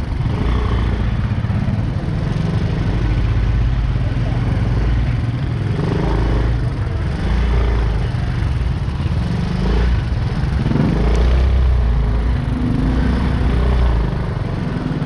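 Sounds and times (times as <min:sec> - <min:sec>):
motorcycle engine: 0:00.0 - 0:15.0
vehicle engines rumbling: 0:00.0 - 0:15.0.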